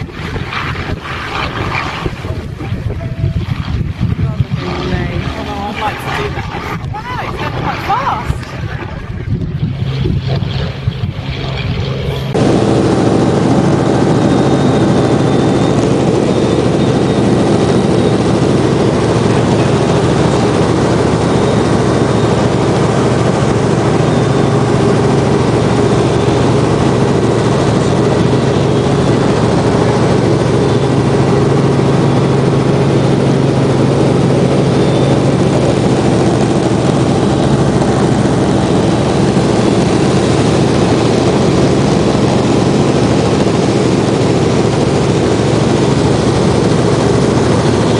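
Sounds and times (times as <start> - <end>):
helicopter engine and rotors drone: 0.0 - 47.9.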